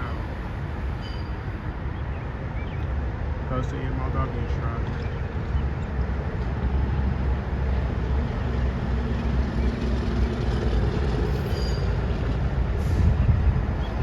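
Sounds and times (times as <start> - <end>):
rail truck rumbling past: 0.0 - 14.0.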